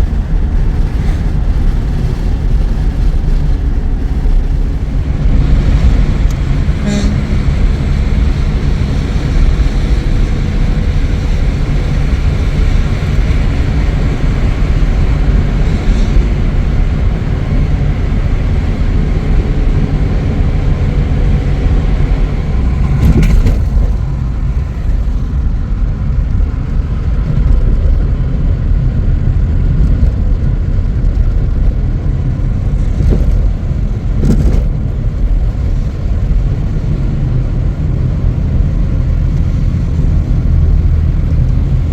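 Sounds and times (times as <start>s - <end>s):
car engine and road noise: 0.0s - 41.9s.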